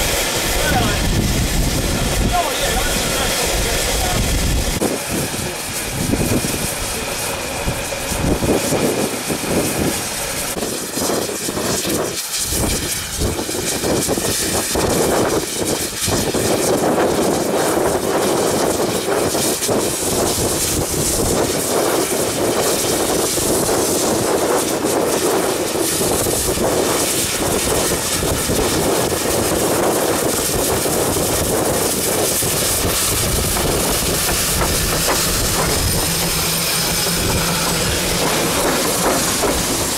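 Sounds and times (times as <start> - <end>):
steam locomotive hissing and roaring: 0.0 - 39.9.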